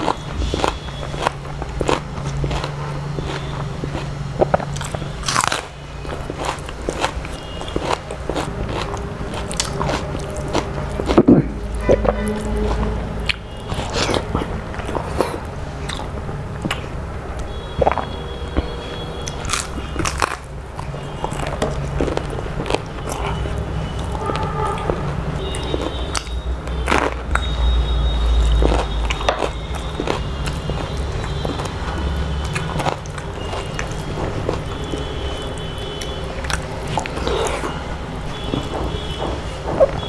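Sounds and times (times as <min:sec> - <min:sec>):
crisp bites and chewing: 0:00.0 - 0:39.2
steady low hum: 0:00.0 - 0:40.0.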